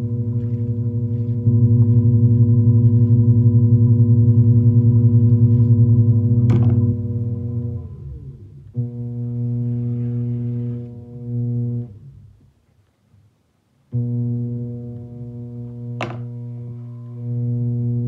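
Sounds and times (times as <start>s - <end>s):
pottery wheel motor humming: 0.0s - 12.1s, 14.0s - 18.0s.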